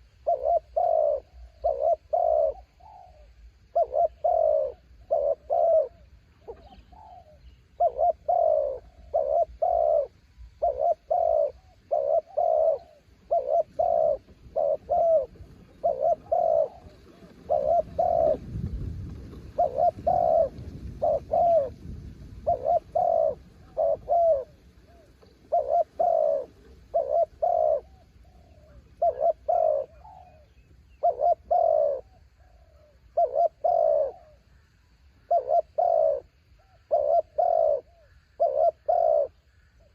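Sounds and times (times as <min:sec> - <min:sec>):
dove cooing: 0:00.0 - 0:39.9
low wind rumble: 0:00.0 - 0:39.9.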